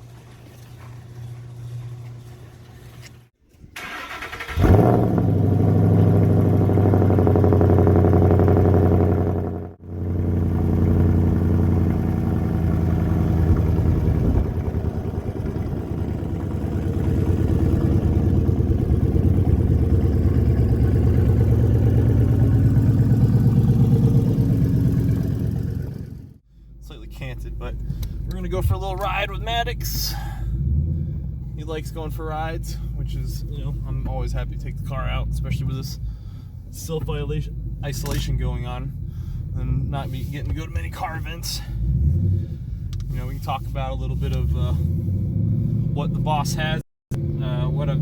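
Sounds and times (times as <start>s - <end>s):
car engine starting and idling loudly: 3.7s - 48.0s.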